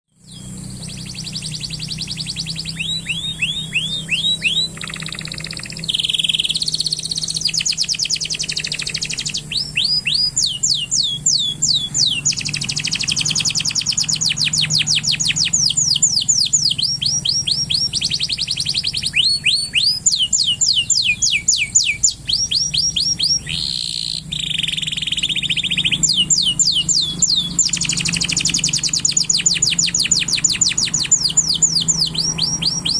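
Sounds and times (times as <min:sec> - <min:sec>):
canary singing: 0:00.1 - 0:32.9
faint low hum: 0:00.1 - 0:32.9.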